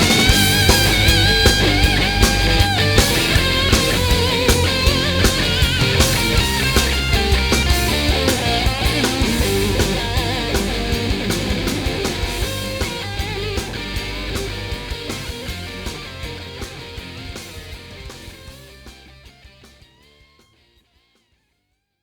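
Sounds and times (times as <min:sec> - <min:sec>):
instrumental rock band: 0:00.0 - 0:20.7.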